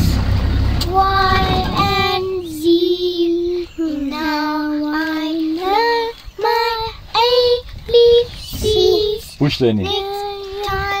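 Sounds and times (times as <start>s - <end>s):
girl singing: 0.8s - 11.0s.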